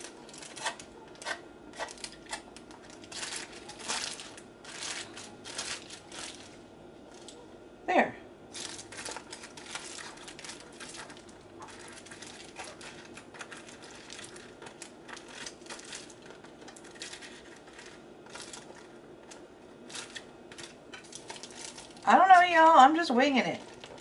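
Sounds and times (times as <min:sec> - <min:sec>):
aluminium foil crinkling: 0:00.0 - 0:07.4, 0:08.5 - 0:24.0.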